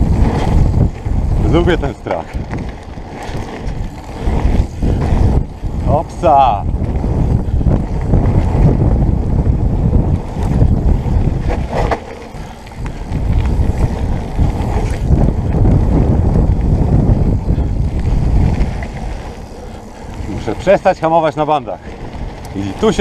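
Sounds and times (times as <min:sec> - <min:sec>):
bike rattling: 0:00.0 - 0:23.0
bike tyres on gravel: 0:00.0 - 0:23.0
wind buffeting microphone: 0:00.0 - 0:23.0.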